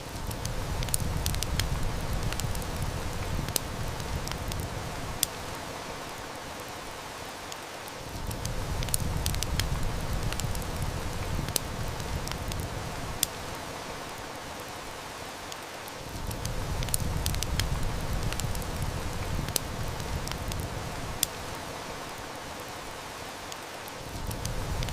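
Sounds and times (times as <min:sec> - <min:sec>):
heavy rain hiss: 0:00.0 - 0:24.9
wood fire crackling: 0:00.0 - 0:24.9.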